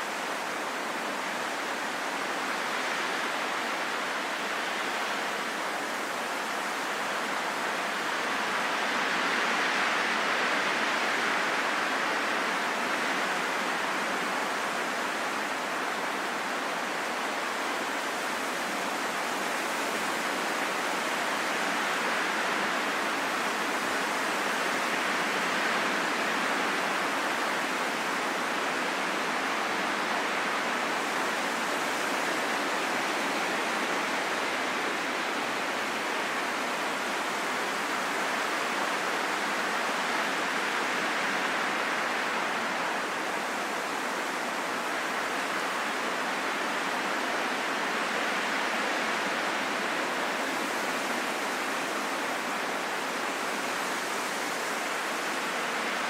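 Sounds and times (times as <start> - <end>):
steady calm wind: 0.0 - 56.0.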